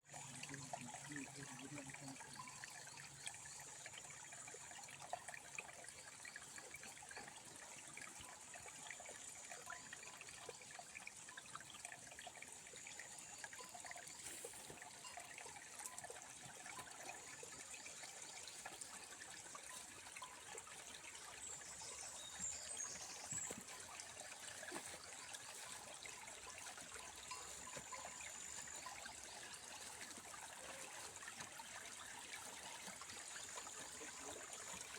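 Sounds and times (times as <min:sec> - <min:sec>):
river water trickling: 0:00.0 - 0:34.9.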